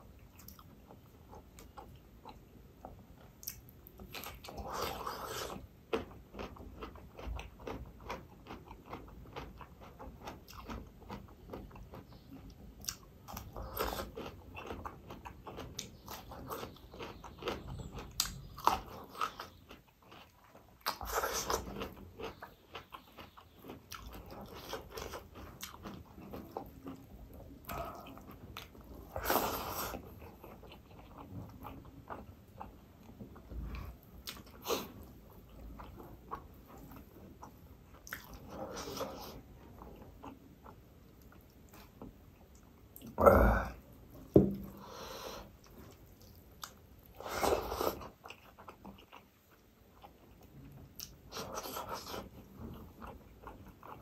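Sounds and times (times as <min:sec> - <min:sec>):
crunchy chewing: 0:00.1 - 0:54.0.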